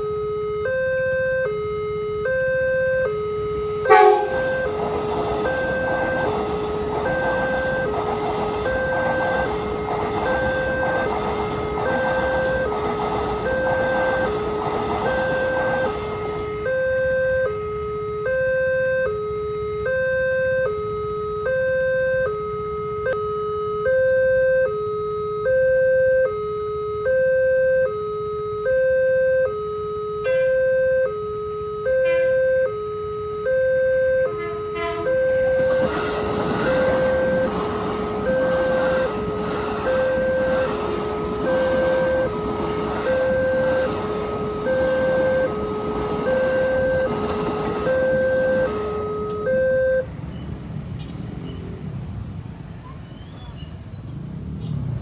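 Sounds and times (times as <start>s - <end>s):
two-tone level crossing alarm: 0.0s - 50.3s.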